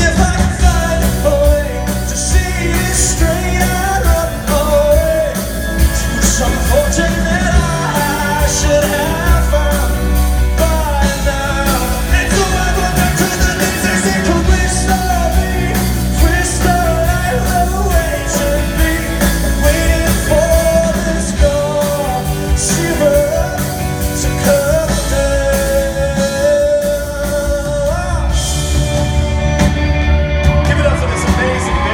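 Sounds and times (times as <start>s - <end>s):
band playing: 0.0s - 31.9s
person singing live: 0.0s - 31.9s.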